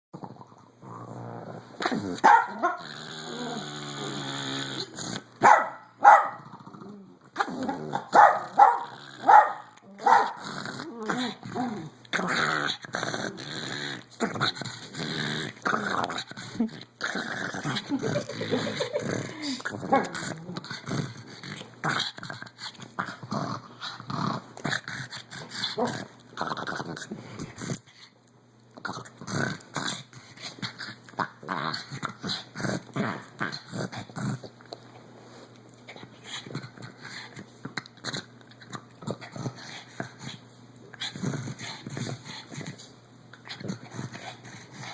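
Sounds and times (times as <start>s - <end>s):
dog growling: 0.2s - 5.3s, 6.4s - 28.1s, 28.8s - 34.7s, 35.9s - 44.9s.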